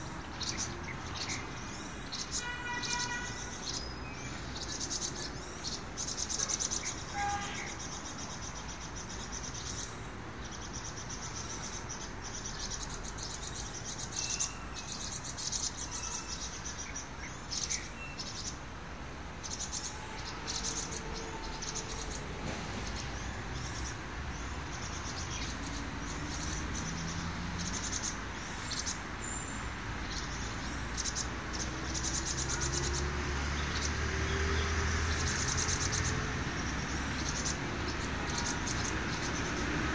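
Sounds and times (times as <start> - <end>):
bird chirps: 0.0 - 18.6, 19.4 - 39.8
insects buzzing in bursts: 0.0 - 39.9.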